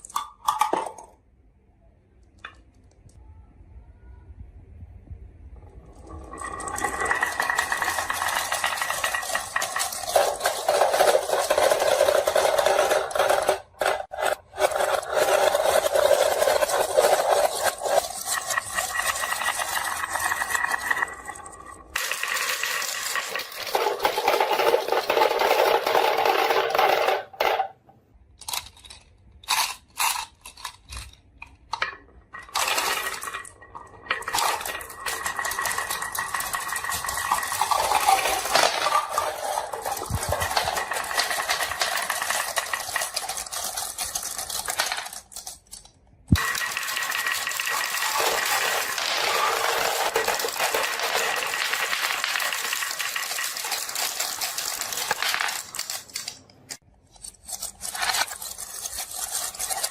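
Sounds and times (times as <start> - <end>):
marbles rolling down track: 5.6 - 27.8, 31.8 - 56.3, 58.0 - 59.9.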